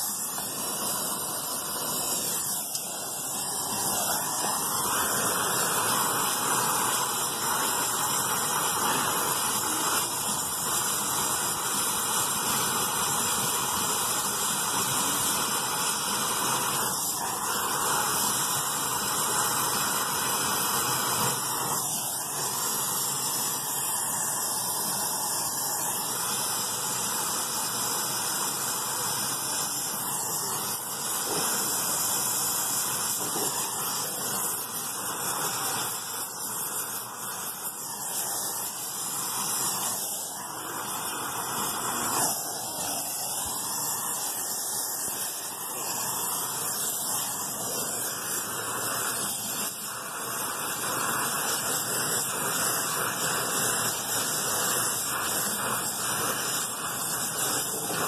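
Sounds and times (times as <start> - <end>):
torch flame hissing: 0.0 - 58.0.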